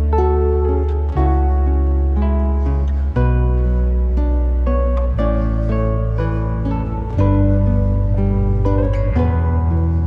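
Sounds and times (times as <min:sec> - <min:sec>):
held low bass notes: 0:00.0 - 0:10.0
plucked string notes: 0:00.0 - 0:10.0.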